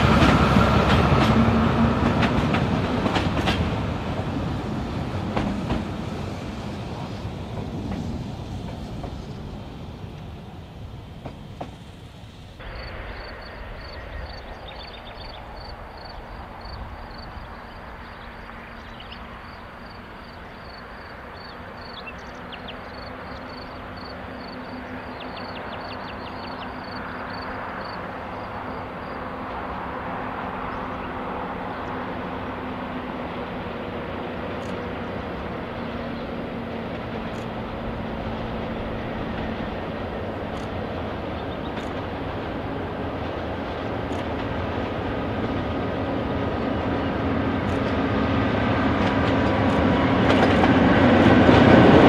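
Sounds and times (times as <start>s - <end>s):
diesel locomotive engine hum: 0.0s - 52.0s
train noise: 0.0s - 52.0s.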